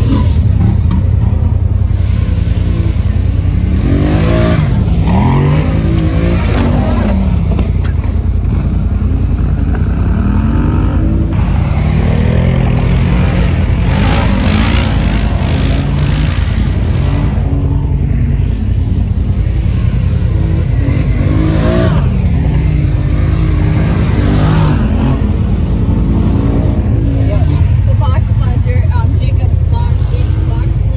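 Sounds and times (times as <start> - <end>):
low engine rumble: 0.0 - 30.9
quad bike engines revving: 0.0 - 30.9.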